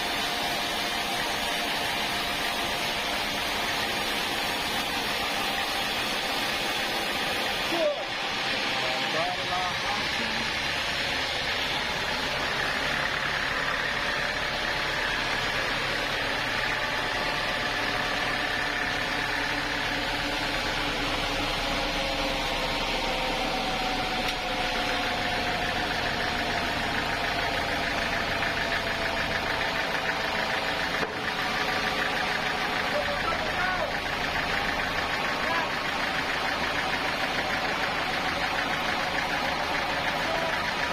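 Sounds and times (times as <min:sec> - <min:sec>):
sawmill machinery humming: 0:00.0 - 0:40.9.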